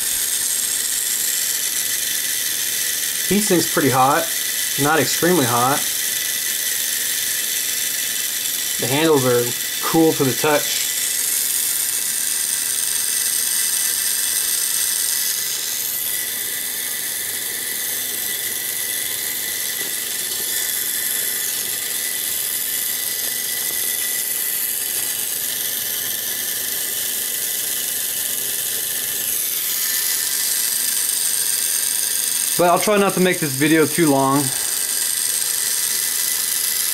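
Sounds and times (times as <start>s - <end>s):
small electric motor whining: 0.0s - 36.9s.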